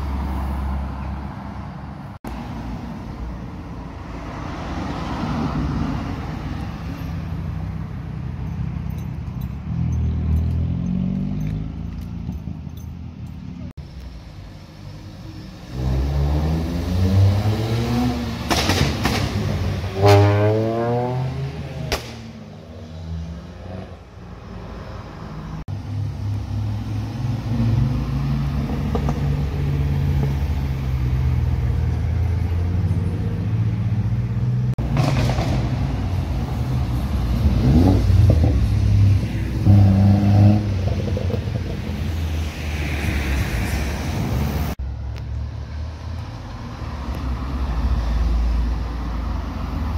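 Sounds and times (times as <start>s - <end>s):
tyre noise from passing cars: 0.0s - 49.9s
car engines revving: 3.8s - 12.6s, 13.4s - 49.9s.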